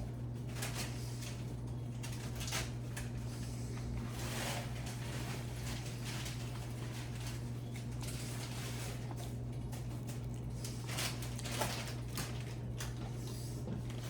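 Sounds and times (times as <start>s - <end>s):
low electrical hum: 0.0s - 14.0s
food rustling: 2.0s - 14.0s.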